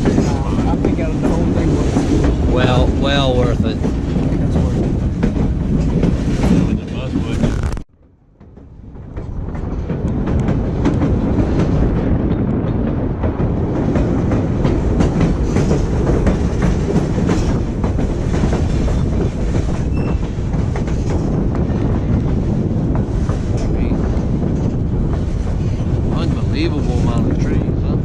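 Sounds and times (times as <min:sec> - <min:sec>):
train rumble: 0:00.0 - 0:28.0
wheels clattering over rail joints: 0:00.0 - 0:28.0.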